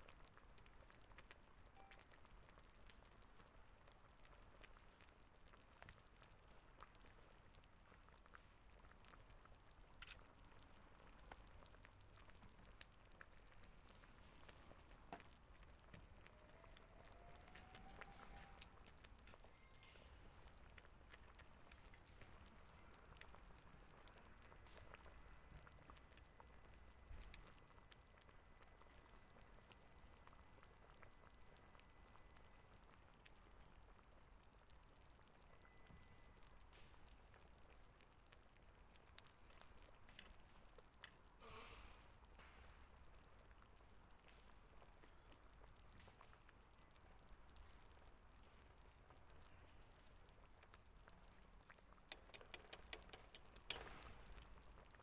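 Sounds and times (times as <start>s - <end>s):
small clicks and ticks: 0.0s - 55.0s.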